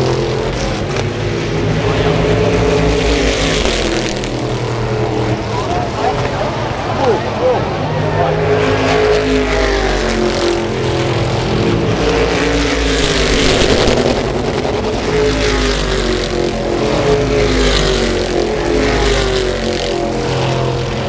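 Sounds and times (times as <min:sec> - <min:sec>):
race car engines passing: 0:00.0 - 0:21.0.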